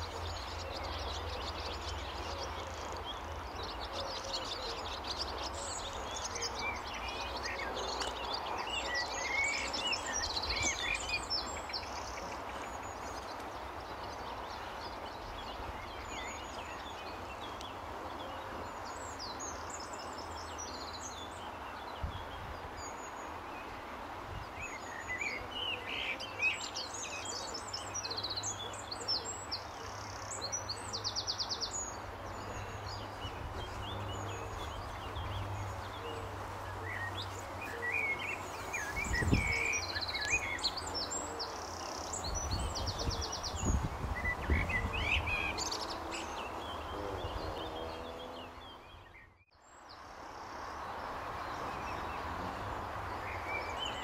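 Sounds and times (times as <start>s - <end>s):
outdoor background hiss: 0.0s - 54.0s
songbirds chirping and trilling: 0.0s - 54.0s.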